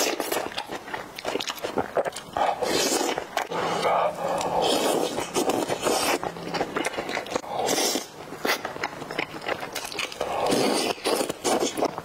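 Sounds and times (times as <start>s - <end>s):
chewing: 0.0s - 12.0s
wet slurping: 1.2s - 8.8s, 9.8s - 11.9s.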